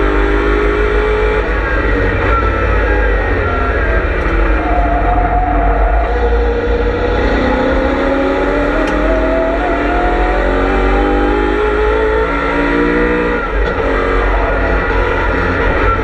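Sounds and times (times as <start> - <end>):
car engine under load: 0.0 - 16.0.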